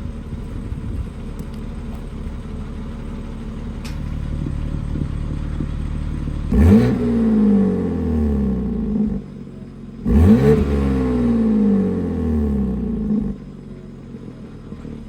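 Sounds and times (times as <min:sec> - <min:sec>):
car engine revving: 0:00.0 - 0:13.9
car engine idling: 0:00.0 - 0:15.0.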